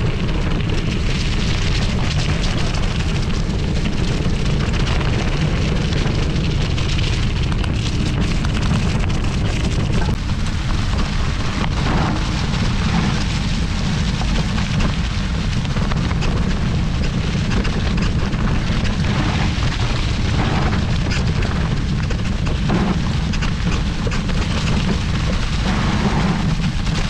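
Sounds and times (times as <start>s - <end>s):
tyres crackling over dry leaves: 0.0s - 27.0s
wind buffeting microphone: 0.0s - 27.0s.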